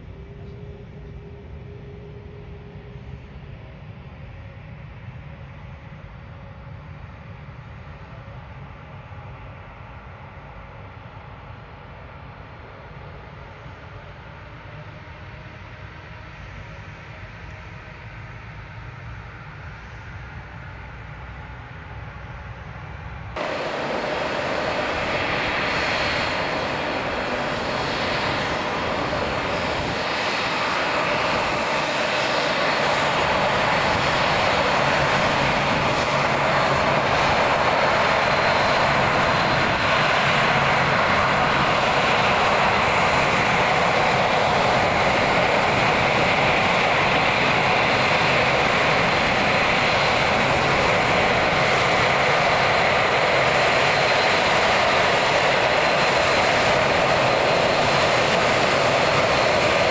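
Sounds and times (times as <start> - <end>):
jet engines roaring with high whine: 0.0 - 59.9.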